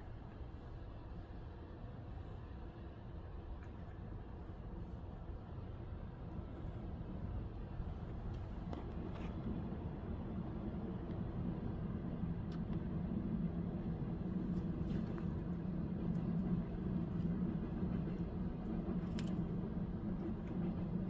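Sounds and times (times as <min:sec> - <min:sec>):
distant city traffic rumble: 0:00.0 - 0:21.0.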